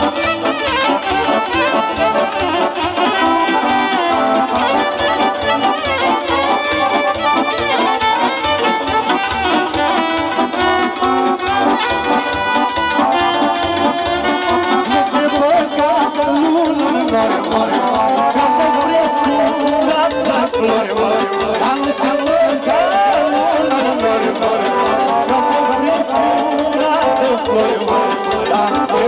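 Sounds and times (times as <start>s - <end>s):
keyboard and violin music: 0.0s - 29.0s.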